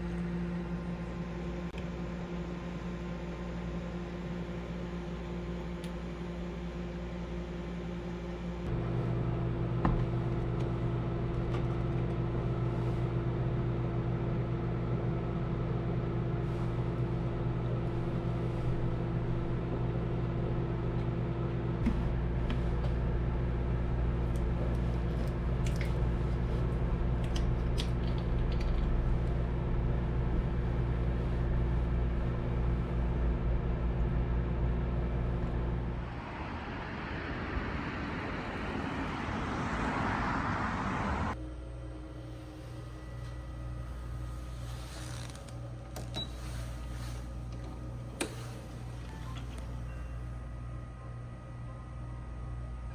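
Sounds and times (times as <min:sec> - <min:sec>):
microwave oven humming: 0:00.0 - 0:38.2, 0:41.4 - 0:52.9.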